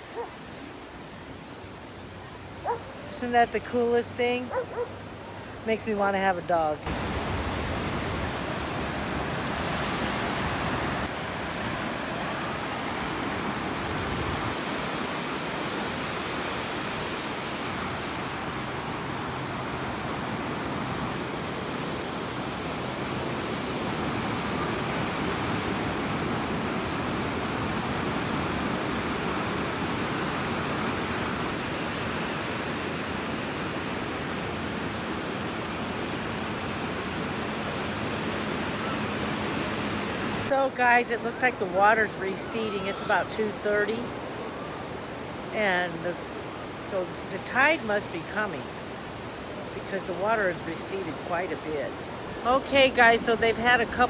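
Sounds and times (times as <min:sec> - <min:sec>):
ocean surf on sandy beach: 0:00.0 - 0:54.0.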